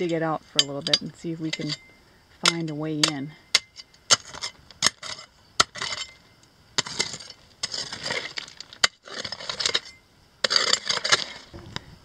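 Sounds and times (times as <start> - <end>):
loose rocks clinking and clattering: 0.0 - 11.5
gravelly scraping: 0.0 - 12.0.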